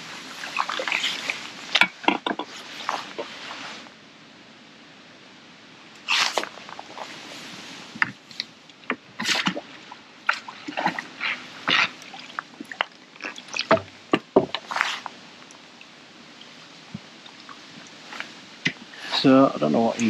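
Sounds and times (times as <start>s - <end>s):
small water sounds: 0.0s - 3.9s, 5.8s - 20.0s.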